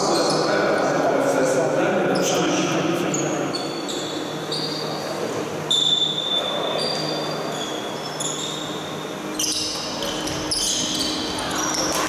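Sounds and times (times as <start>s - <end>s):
sports hall hum: 0.0s - 12.0s.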